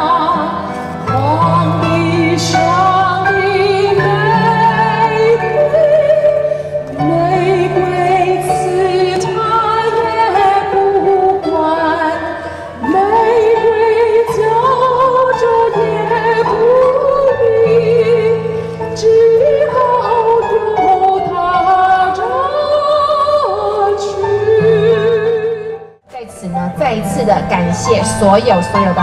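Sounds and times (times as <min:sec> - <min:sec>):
woman singing with vibrato: 0:00.0 - 0:26.0
amplified accompaniment: 0:00.0 - 0:29.0.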